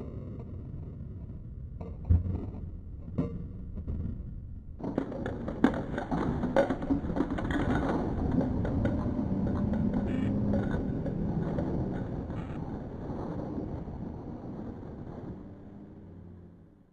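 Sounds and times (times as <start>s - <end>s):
rocket engine rumble: 0.0s - 16.8s.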